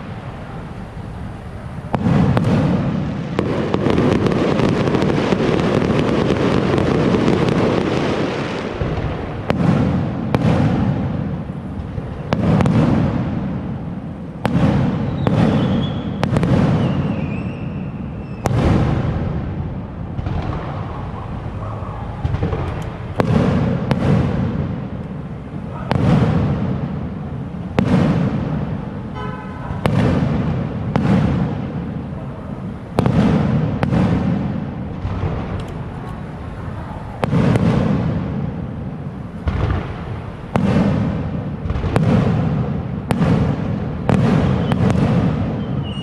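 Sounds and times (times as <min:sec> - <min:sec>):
firework shells booming and crackling: 0:00.0 - 0:46.0.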